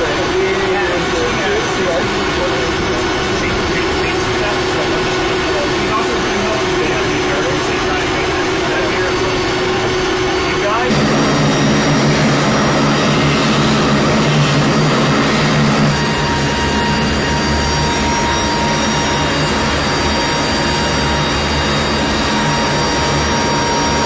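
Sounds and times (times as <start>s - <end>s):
steady whine: 0.0s - 24.0s
turboprop engines droning: 0.0s - 24.0s.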